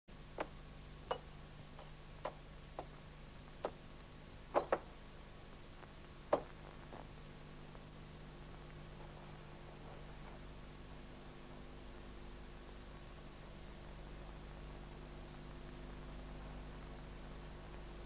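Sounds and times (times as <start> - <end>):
faint steady hum: 0.1 - 18.0.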